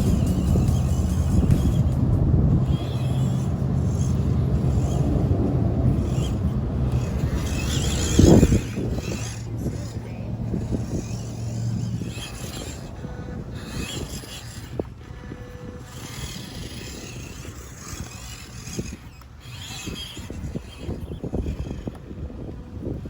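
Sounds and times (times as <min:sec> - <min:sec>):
low motor hum: 0:00.0 - 0:23.0
toy trucks driving over rocks: 0:00.0 - 0:23.0.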